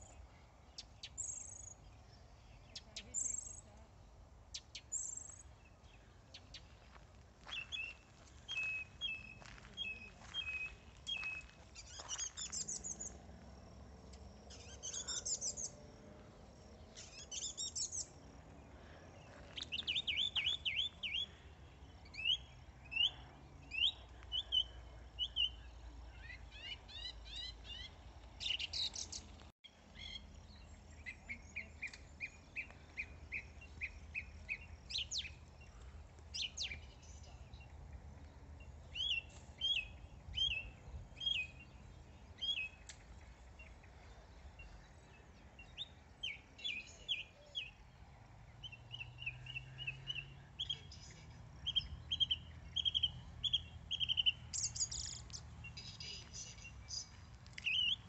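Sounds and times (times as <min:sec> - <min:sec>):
song thrush singing: 0:00.0 - 0:58.0.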